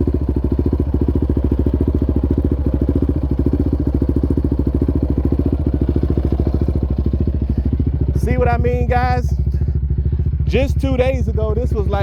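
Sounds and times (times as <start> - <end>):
quad engine idling low: 0.0 - 12.0.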